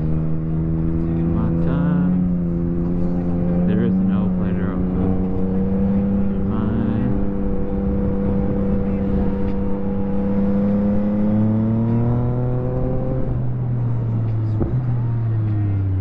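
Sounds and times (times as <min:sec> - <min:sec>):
motorcycle engine at steady revs: 0:00.0 - 0:15.7.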